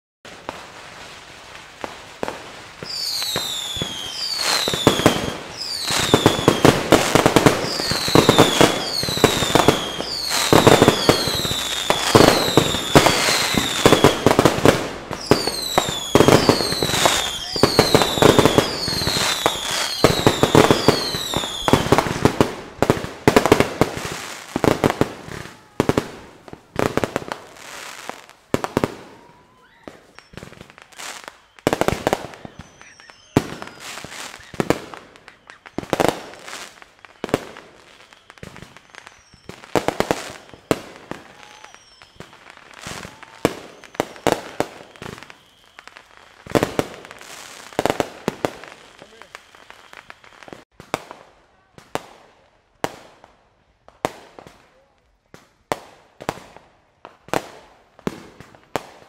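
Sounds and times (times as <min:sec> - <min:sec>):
fireworks bangs and crackling: 0:00.2 - 0:59.0
falling fireworks whistles: 0:00.3 - 0:51.2.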